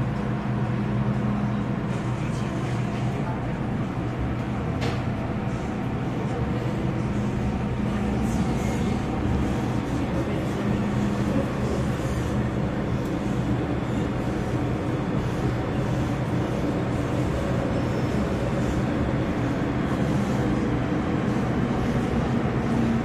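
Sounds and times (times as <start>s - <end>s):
train carriage rumble and hum: 0.0s - 23.0s.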